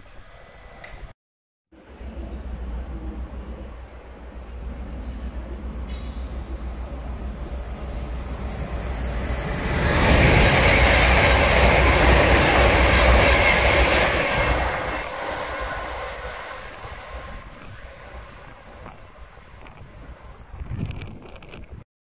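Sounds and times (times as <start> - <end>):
train wheels rumbling on rails: 1.9 - 21.8.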